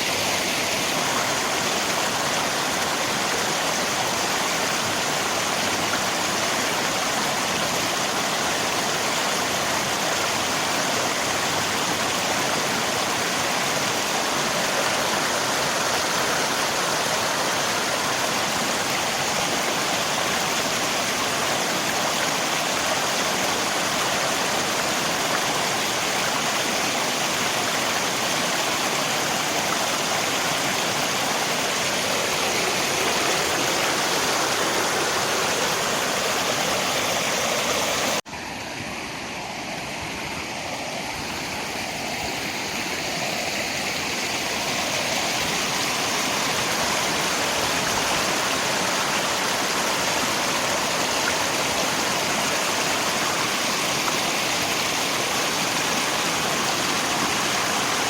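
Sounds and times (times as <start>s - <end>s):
flowing river water: 0.0s - 58.0s
rain: 0.0s - 58.0s.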